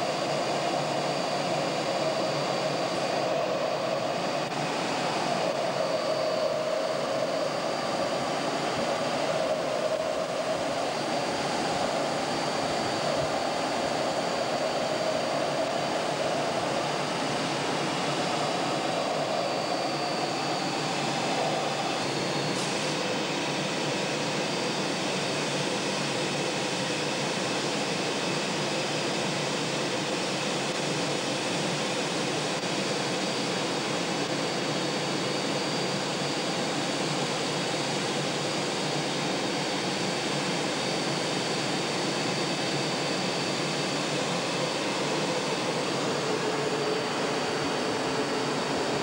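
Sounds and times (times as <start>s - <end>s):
jet engine and air noise: 0.0s - 49.0s.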